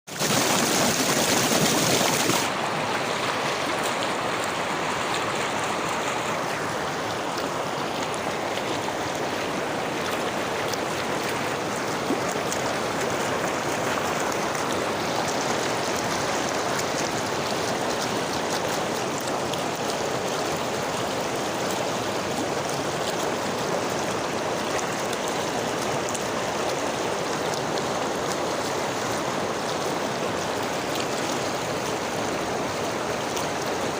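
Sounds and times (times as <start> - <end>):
flowing river water: 0.1 - 33.9.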